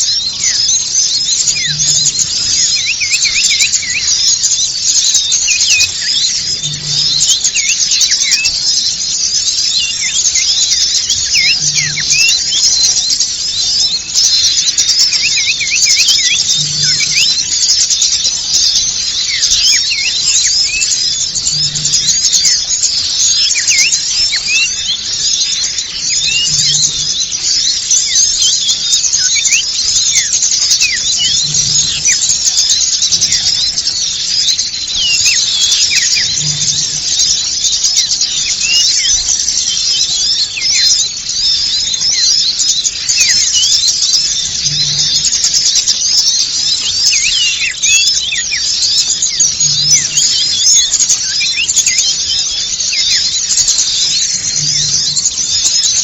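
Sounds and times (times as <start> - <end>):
small birds twittering and chirping: 0.0 - 56.0.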